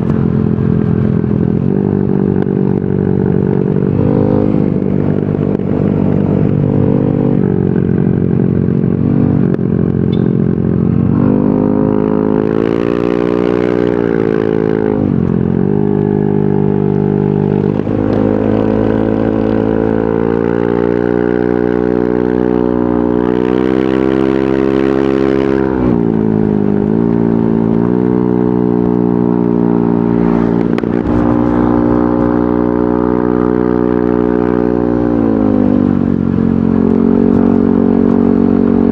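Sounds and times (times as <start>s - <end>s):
scooter engine exhaust: 0.0s - 38.9s.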